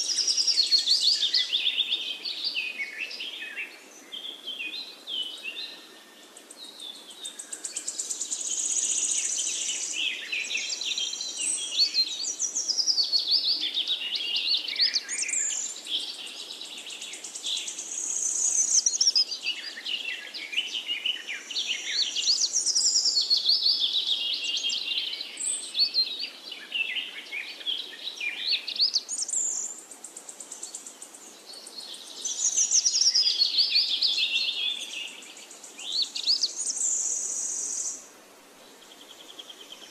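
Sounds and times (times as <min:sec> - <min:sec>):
birds chirping and trilling: 0:00.0 - 0:38.0.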